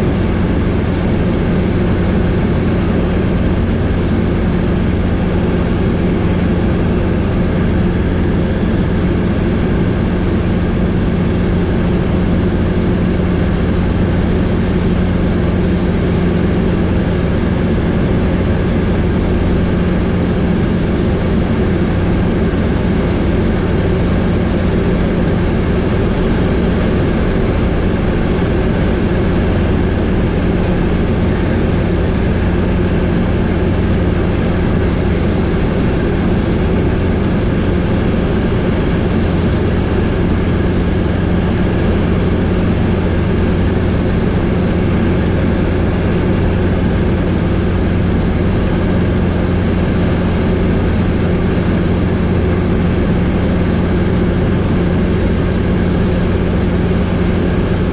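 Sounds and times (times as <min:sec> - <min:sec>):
helicopter rotor drone: 0:00.0 - 0:57.9.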